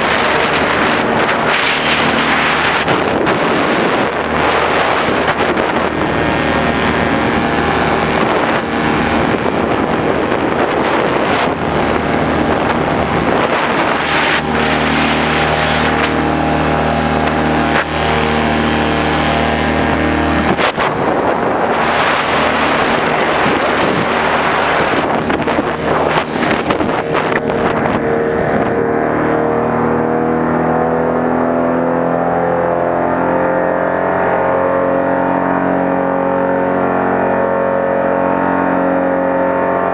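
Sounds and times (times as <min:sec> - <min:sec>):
engine running: 0:00.0 - 0:39.9
loud continuous rushing noise: 0:00.0 - 0:39.9.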